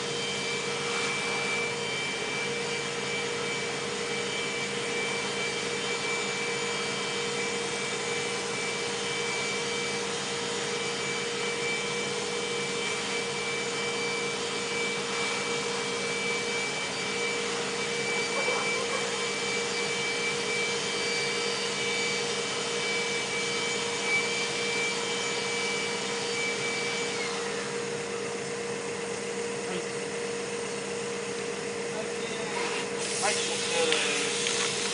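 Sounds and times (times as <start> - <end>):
blower humming with high whine: 0.0 - 34.9.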